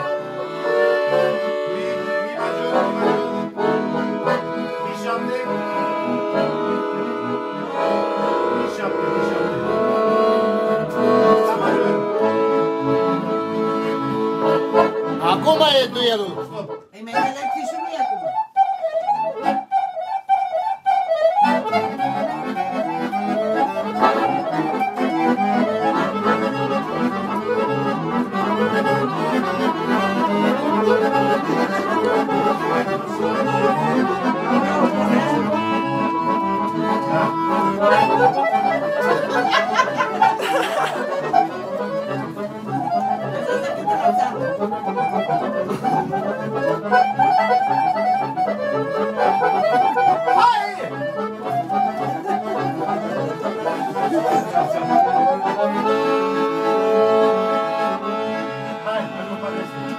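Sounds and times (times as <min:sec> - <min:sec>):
accordion playing a tune: 0:00.0 - 0:59.9.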